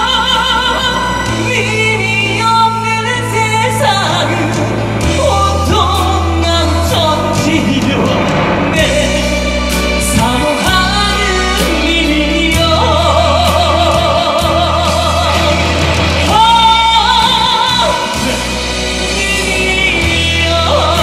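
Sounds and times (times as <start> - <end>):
ballad backing track: 0.0 - 21.0
man singing into a microphone: 0.0 - 21.0.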